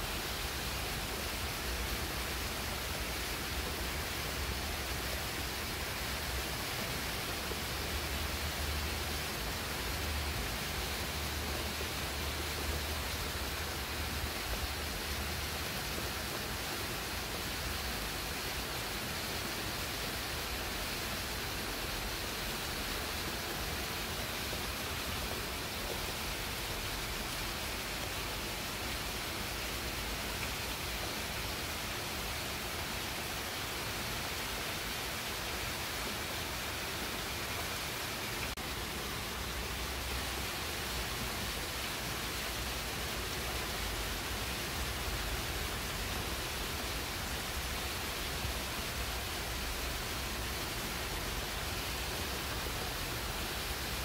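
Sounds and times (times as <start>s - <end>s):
rain on leaves: 0.0s - 54.0s.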